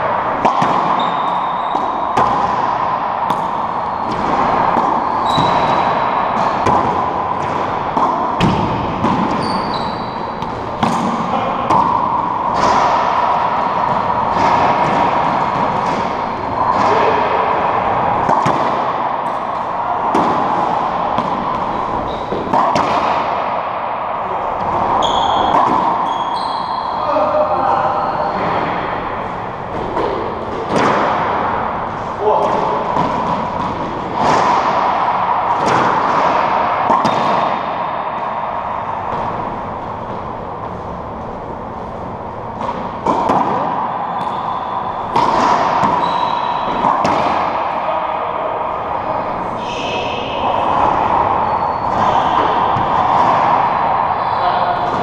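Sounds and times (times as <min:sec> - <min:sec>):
racquetball hits echoing: 0:00.0 - 0:55.0.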